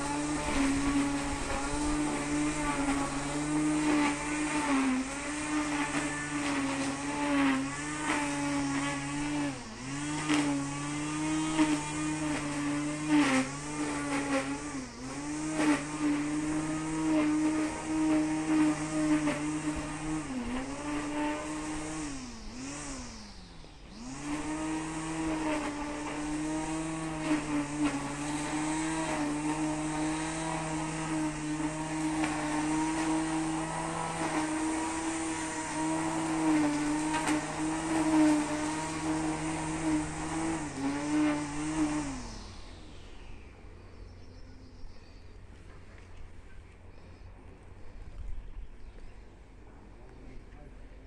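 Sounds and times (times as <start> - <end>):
brush cutter engine revving: 0.0 - 49.1.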